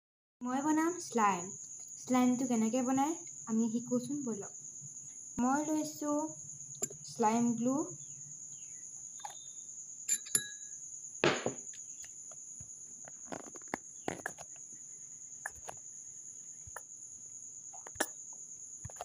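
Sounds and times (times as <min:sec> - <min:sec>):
high-pitched insect trill: 0:00.4 - 0:19.0.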